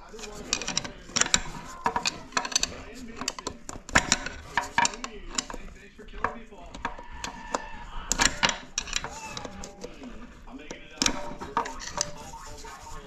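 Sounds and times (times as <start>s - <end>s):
metal parts and tools clinking: 0.0s - 13.0s.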